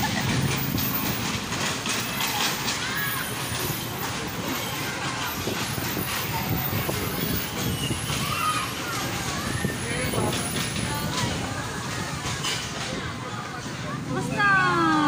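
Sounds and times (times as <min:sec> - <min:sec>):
bumper cars knocking and clattering: 0:00.0 - 0:15.0
bumper cars rumbling: 0:00.0 - 0:15.0
faint voices calling out: 0:02.0 - 0:15.0.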